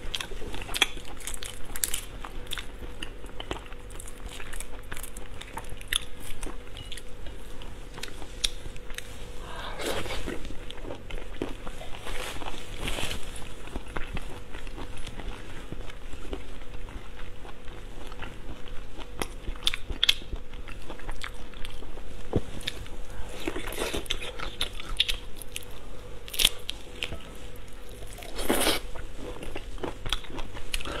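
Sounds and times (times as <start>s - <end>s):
chewing and crunching shellfish: 0.0s - 31.0s.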